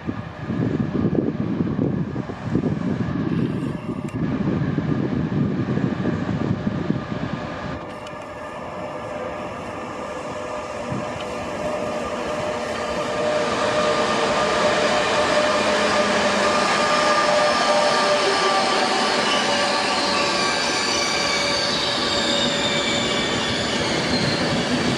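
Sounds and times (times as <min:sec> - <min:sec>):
approaching train whine: 0:00.0 - 0:24.9
train rumble: 0:00.0 - 0:24.9.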